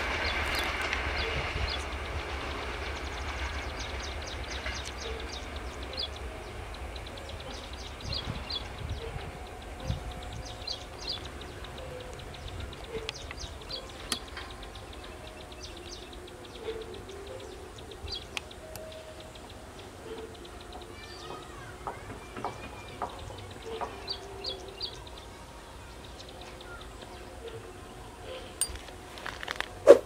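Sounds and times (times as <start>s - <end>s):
birds chirping: 0.0s - 30.0s
faint train rumble: 0.0s - 30.0s.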